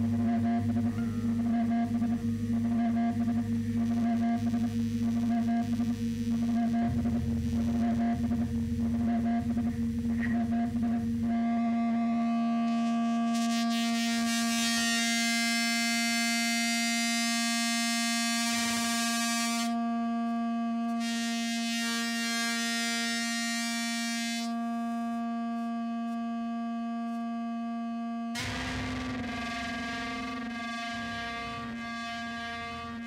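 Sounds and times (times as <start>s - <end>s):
electronic drone music: 0.0s - 24.6s, 28.2s - 33.0s.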